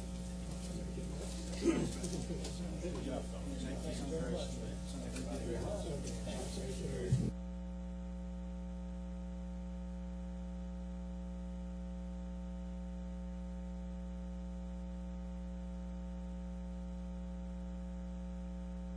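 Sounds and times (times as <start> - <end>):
electrical mains hum: 0.0 - 18.9.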